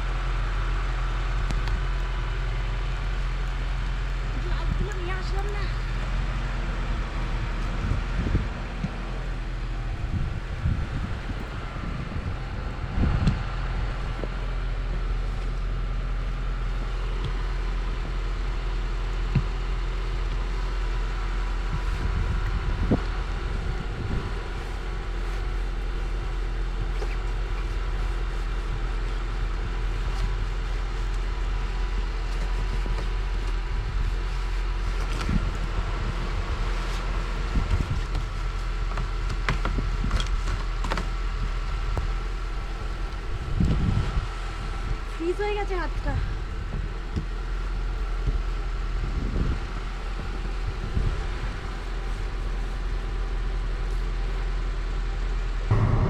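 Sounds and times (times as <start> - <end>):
car engine idling: 0.0 - 49.2.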